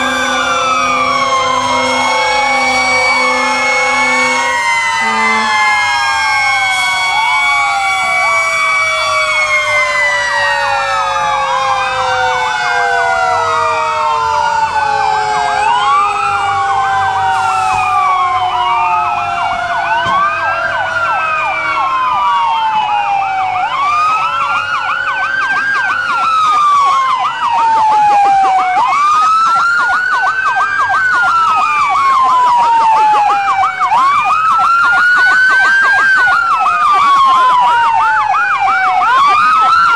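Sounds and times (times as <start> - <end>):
fire engine sirens wailing: 0.0 - 39.9
low siren tone winding down: 0.0 - 39.9
siren yelps: 0.0 - 39.9.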